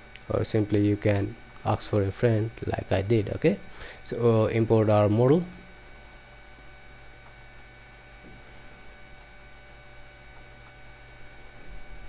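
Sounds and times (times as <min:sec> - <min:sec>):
electrical mains hum: 0:00.0 - 0:12.0
faint whine tones: 0:00.0 - 0:12.0.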